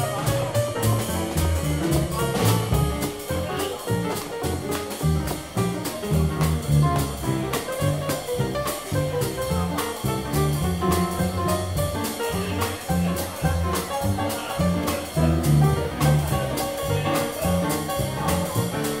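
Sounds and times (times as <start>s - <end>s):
drums swing beat on cymbals: 0.0s - 19.0s
upright bass notes: 0.0s - 19.0s.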